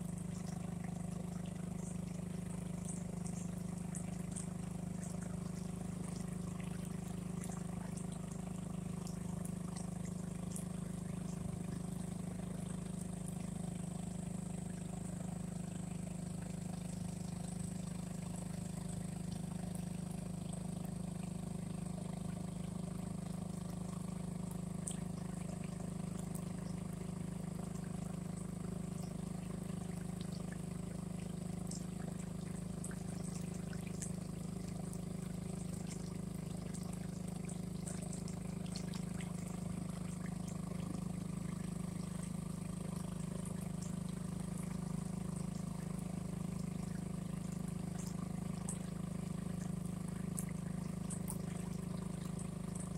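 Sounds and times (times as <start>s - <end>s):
boat motor droning: 0.0s - 52.9s.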